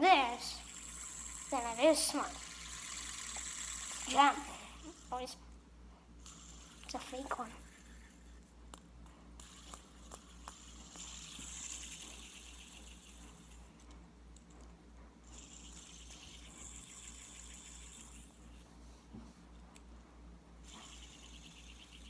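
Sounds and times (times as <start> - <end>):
fidget spinner whirring: 0.0 - 22.0.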